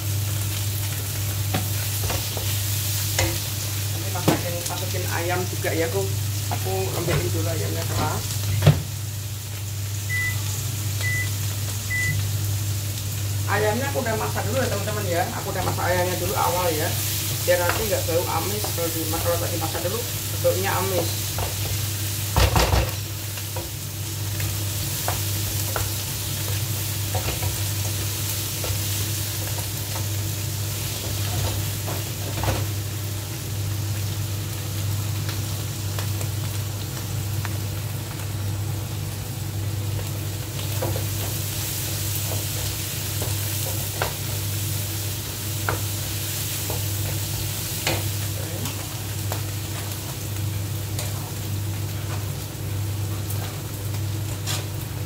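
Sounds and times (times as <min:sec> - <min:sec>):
chicken sizzling in a wok: 0:00.0 - 0:55.0.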